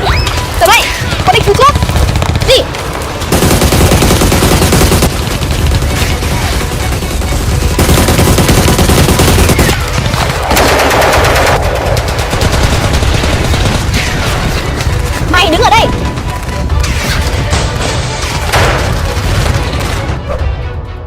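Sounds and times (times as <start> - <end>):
rapid automatic gunfire: 0.3 - 20.2.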